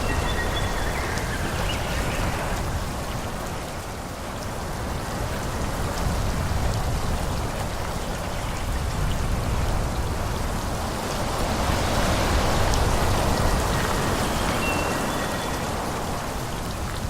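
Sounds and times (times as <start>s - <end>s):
wind rushing through trees: 0.0s - 17.0s.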